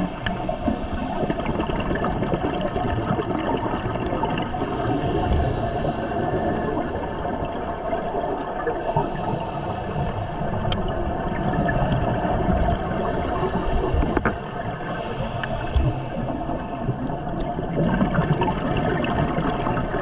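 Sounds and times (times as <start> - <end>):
steady underwater rumble: 0.0 - 20.0
underwater breathing bubbles: 0.0 - 20.0.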